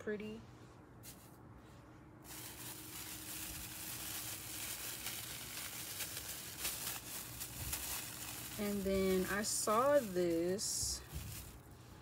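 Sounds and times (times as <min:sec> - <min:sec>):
crinkly rustling of craft supplies: 0:02.2 - 0:12.0.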